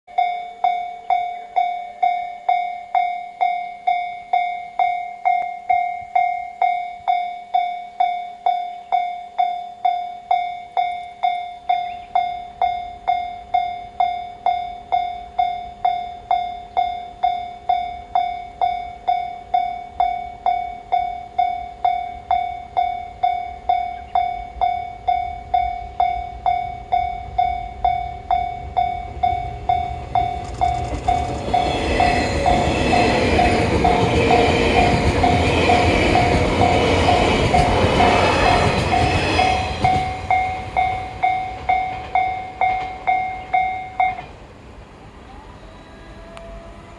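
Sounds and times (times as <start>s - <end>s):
level-crossing warning bell: 0.1s - 44.4s
electric train rumbling: 0.1s - 46.9s.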